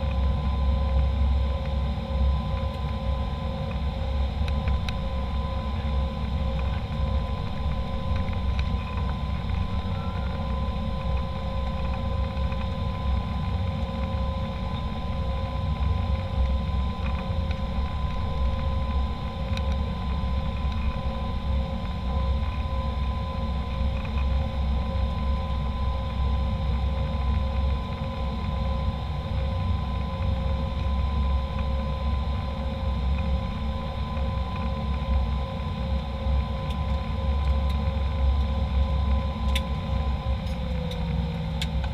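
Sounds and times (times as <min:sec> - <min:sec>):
engine high whine: 0:00.0 - 0:41.9.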